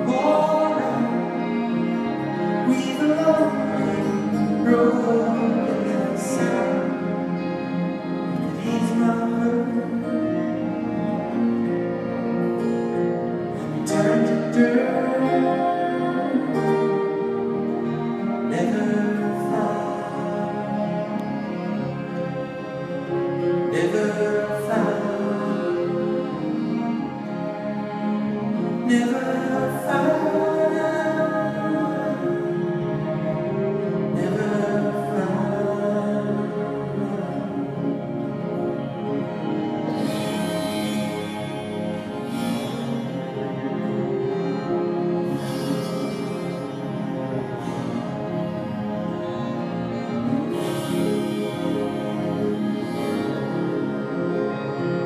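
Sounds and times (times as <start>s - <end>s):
accordion: 0.0s - 55.0s
acoustic guitars: 0.0s - 55.0s
cello: 0.0s - 55.0s
electric guitar: 0.0s - 55.0s.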